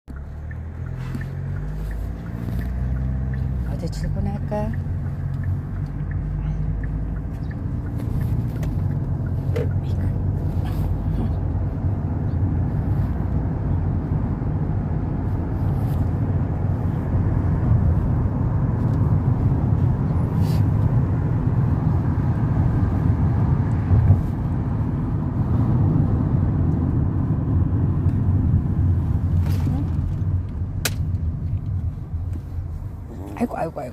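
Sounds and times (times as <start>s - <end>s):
car road rumble: 0.0s - 33.9s.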